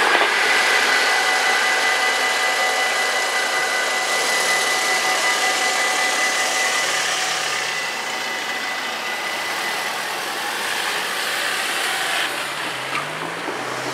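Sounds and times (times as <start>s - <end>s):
level-crossing warning bells: 0.0s - 12.6s
van engine and tyres: 0.0s - 13.9s.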